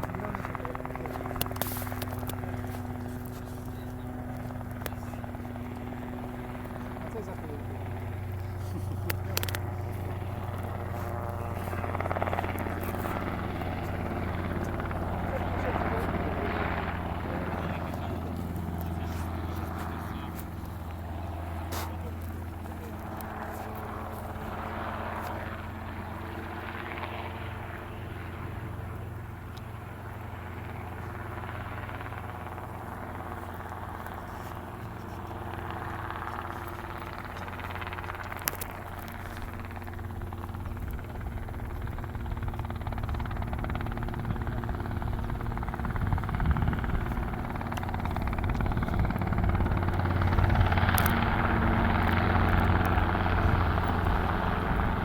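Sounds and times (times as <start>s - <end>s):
helicopter rotor drone: 0.0s - 55.0s.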